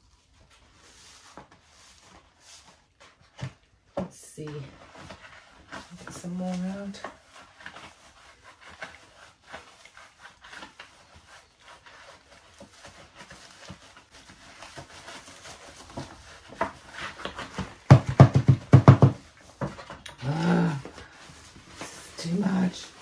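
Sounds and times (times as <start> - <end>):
moss rustling and crackling: 0.0 - 18.4, 19.0 - 23.0.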